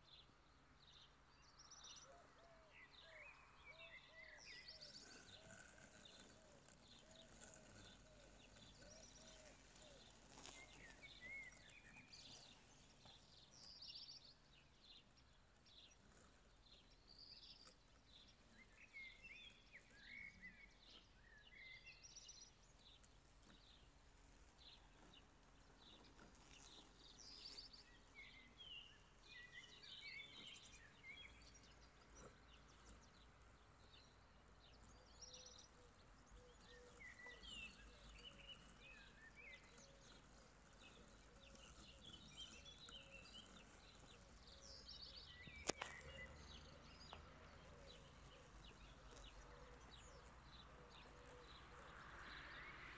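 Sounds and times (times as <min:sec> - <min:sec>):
faint birdsong: 0:00.0 - 0:52.9.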